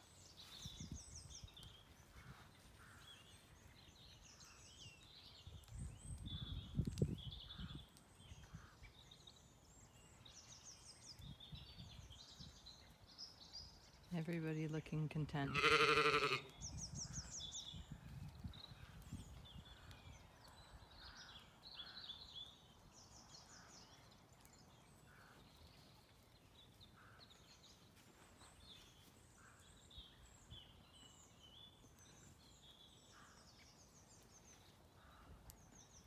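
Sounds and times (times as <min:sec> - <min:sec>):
small birds chirping: 0:00.0 - 0:14.3, 0:15.5 - 0:36.0.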